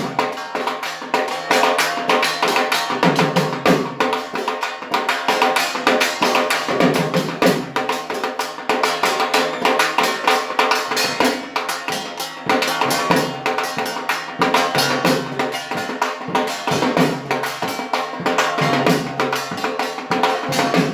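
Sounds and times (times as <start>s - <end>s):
barrel drum beaten with sticks: 0.0s - 20.9s.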